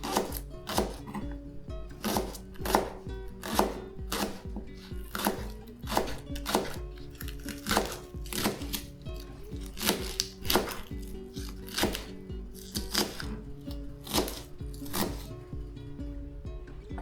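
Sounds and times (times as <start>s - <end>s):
knife chopping on a board: 0.0s - 15.3s
background music: 0.0s - 17.0s.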